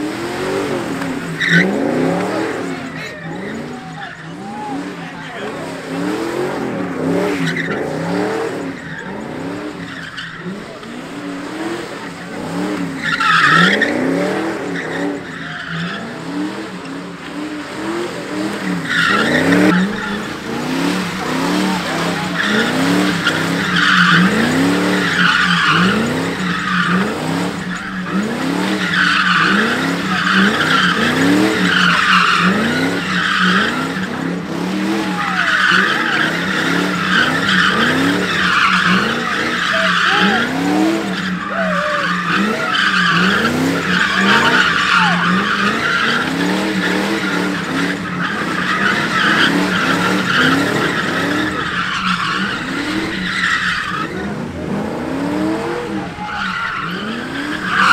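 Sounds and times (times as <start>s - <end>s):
car engine revving: 0.0s - 57.9s
tyres screeching: 0.0s - 57.9s.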